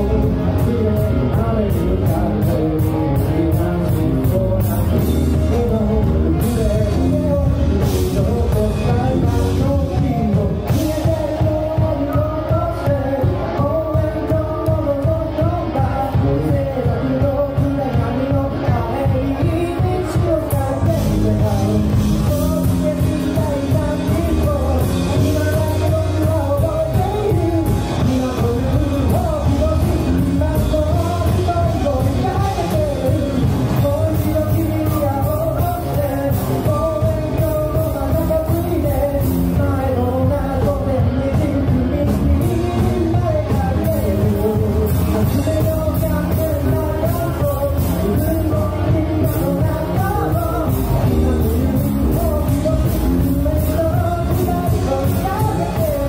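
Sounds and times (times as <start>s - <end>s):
distorted electric guitars: 0.0s - 56.0s
drums: 0.0s - 56.0s
electric bass: 0.0s - 56.0s
man singing: 0.0s - 56.0s.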